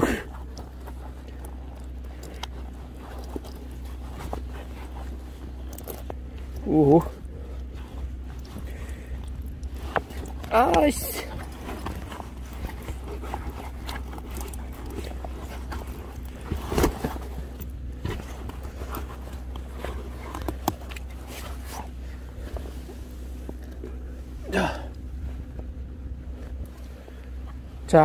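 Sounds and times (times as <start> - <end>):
footsteps on loose stones: 0.0 - 24.1
low hum: 0.0 - 28.0.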